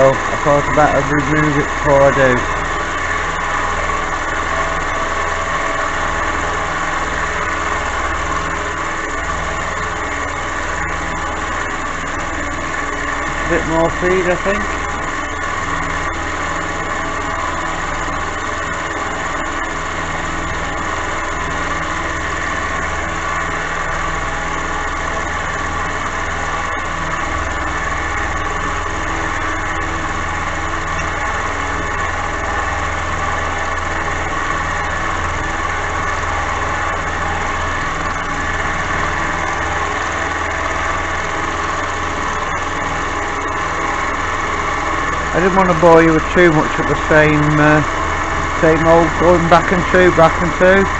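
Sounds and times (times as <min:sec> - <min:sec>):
high mechanical whine: 0:00.0 - 0:50.9
milling machine cutting steel: 0:00.0 - 0:50.9.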